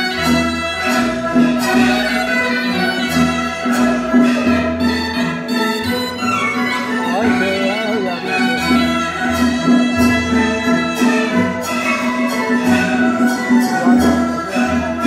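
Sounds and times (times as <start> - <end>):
suona playing: 0.0 - 15.0.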